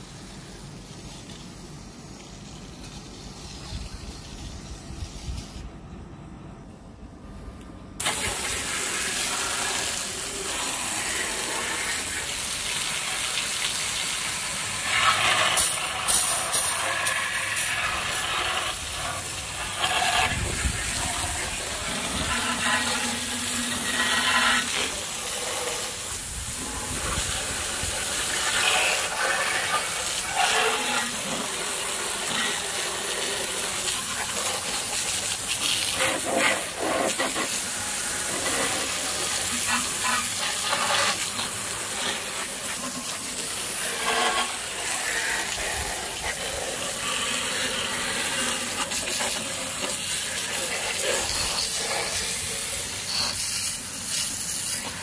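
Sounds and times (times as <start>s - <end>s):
pressure washer jet hissing: 8.0s - 55.0s.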